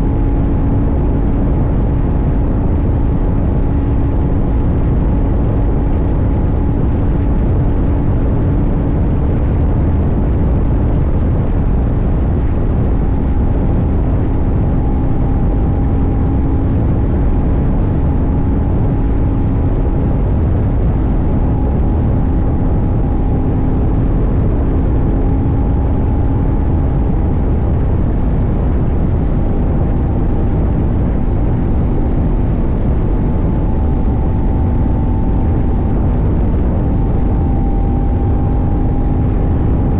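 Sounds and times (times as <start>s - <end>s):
heavy wind: 0.0s - 39.9s
motorcycle engine cruising: 0.0s - 39.9s
road rumble: 0.0s - 39.9s.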